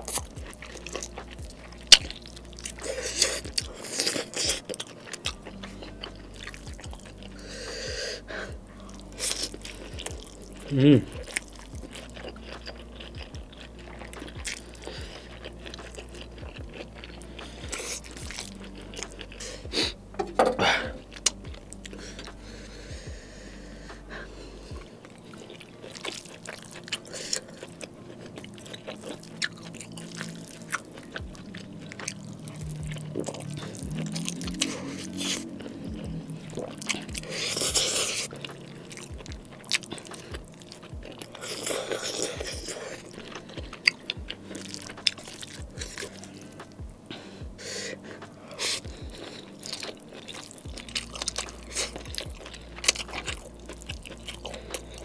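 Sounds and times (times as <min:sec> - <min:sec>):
wet chewing and smacking: 0:00.0 - 0:55.0.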